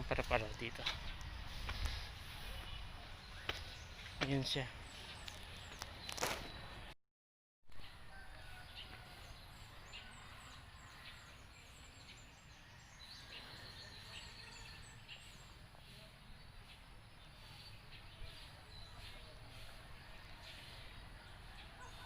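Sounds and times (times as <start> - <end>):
faint birdsong chirps: 0.0 - 7.0, 7.7 - 22.0.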